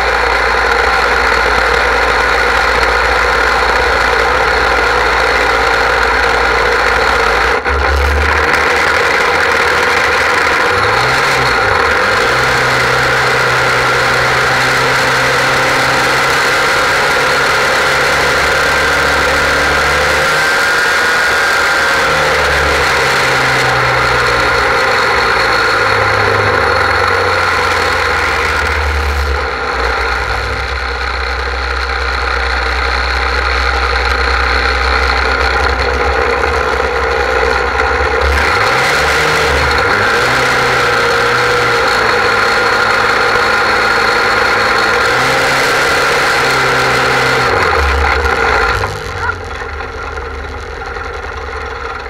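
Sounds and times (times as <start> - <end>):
fire pump engine running: 0.0 - 52.0.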